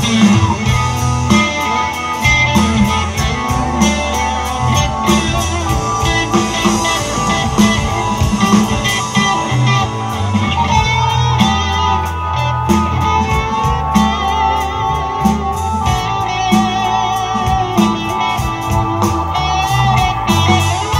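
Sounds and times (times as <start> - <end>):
bass guitar: 0.0 - 20.9
drums with cymbal strokes: 0.0 - 20.9
electric guitar: 0.0 - 20.9.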